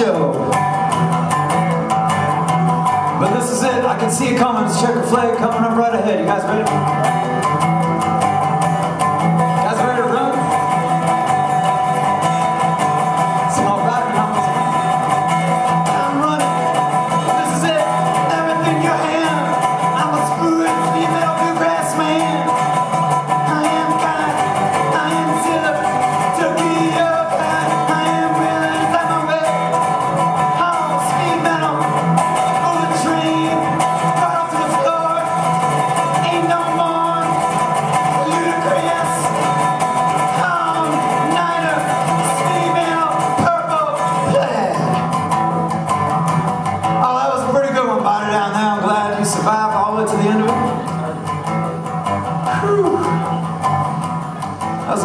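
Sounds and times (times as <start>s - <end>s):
resonator guitar playing: 0.0s - 55.0s.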